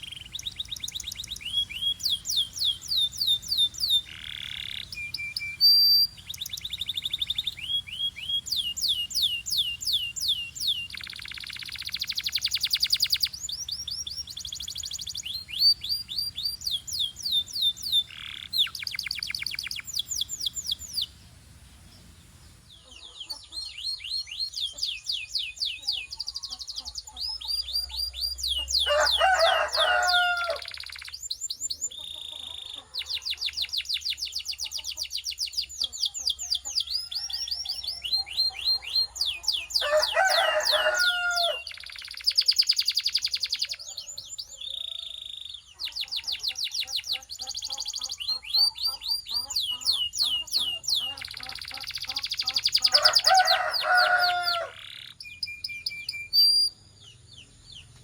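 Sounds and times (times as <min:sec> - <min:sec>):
lower-pitched bird call: 0:00.0 - 0:56.8
canary singing trills: 0:00.0 - 0:58.0.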